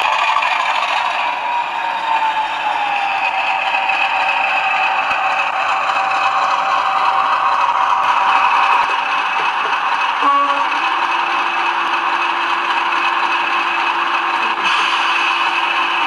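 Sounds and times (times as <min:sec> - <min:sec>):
model diesel engine sound: 0:00.0 - 0:16.0
model train rattling on track: 0:00.0 - 0:16.0.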